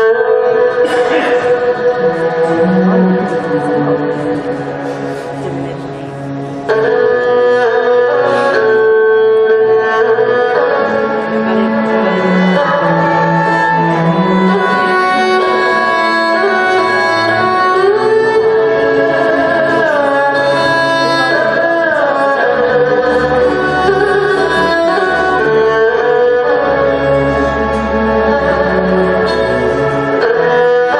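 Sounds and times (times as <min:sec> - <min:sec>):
traditional instrumental ensemble: 0:00.0 - 0:30.9.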